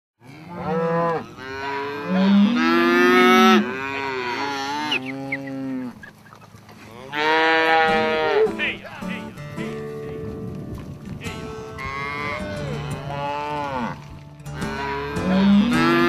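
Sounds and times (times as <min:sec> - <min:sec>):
cattle mooing: 0:00.2 - 0:10.3, 0:11.2 - 0:16.0.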